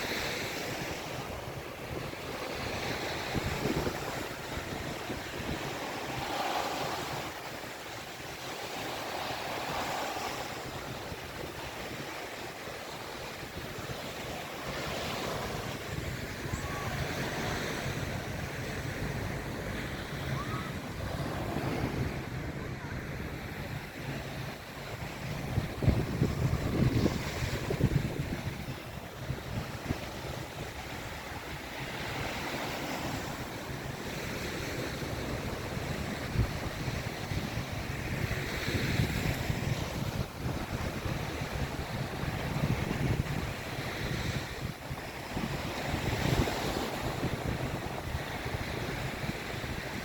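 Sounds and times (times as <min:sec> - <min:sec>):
sea waves breaking on beach: 0:00.0 - 0:50.0
wind rumbling on microphone: 0:00.0 - 0:50.0.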